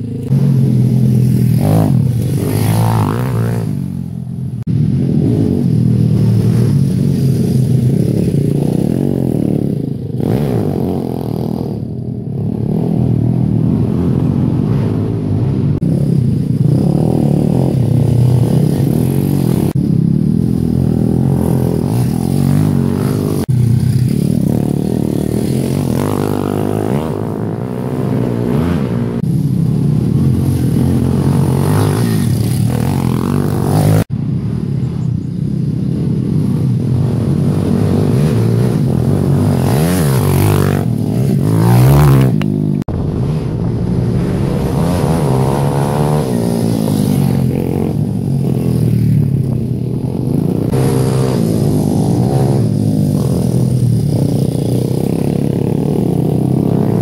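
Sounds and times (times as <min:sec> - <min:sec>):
pit bike engines revving: 0:00.0 - 0:57.0.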